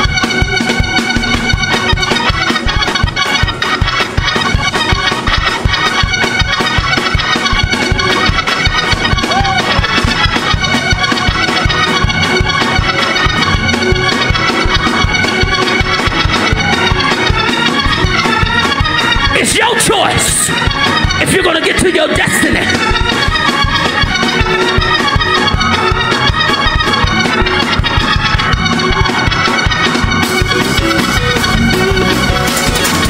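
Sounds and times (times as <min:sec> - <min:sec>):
upbeat church organ music: 0:00.0 - 0:33.0.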